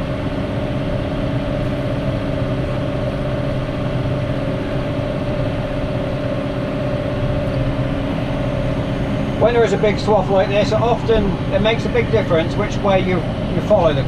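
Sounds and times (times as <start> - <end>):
baler steady held tone: 0.0 - 14.0
tractor engine droning: 0.0 - 14.0.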